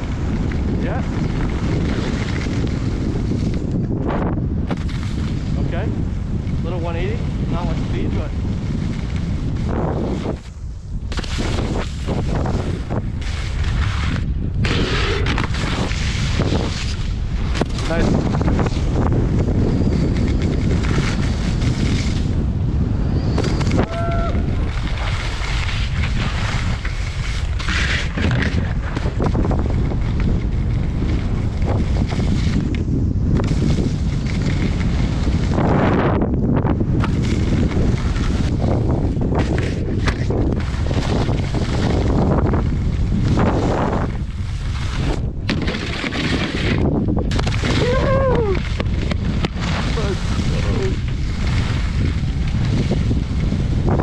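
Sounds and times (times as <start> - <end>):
skis scraping on snow: 0.0 - 54.0
wind rushing over microphone: 0.0 - 54.0.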